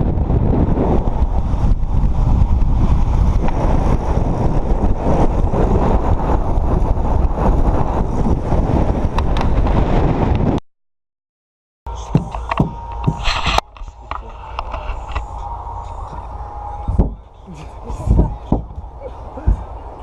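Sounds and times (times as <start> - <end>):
vehicle noise: 0.0 - 10.6, 11.9 - 20.0
wind buffeting microphone: 0.0 - 10.6, 11.9 - 20.0.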